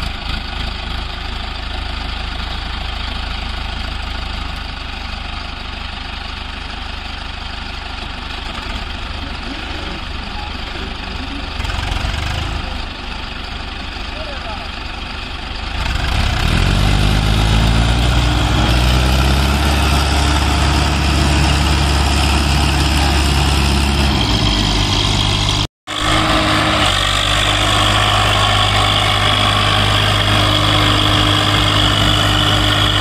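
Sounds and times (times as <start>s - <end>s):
diesel tractor engine under load: 0.0s - 33.0s.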